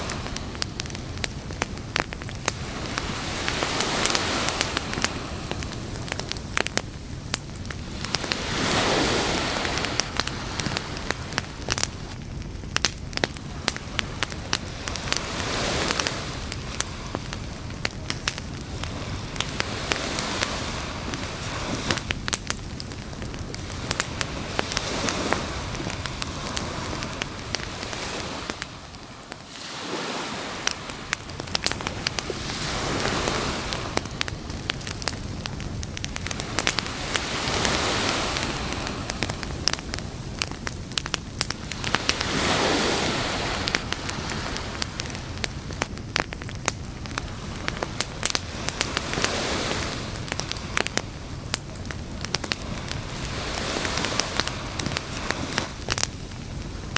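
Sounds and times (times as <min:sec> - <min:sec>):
surf hissing: 0:00.0 - 0:12.2, 0:13.3 - 0:45.8, 0:46.9 - 0:56.9
campfire crackling and popping: 0:00.0 - 0:56.9.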